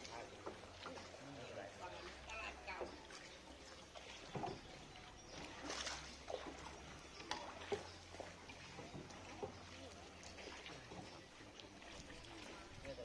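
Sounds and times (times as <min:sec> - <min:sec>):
water splashing around a boat: 0:00.0 - 0:13.0.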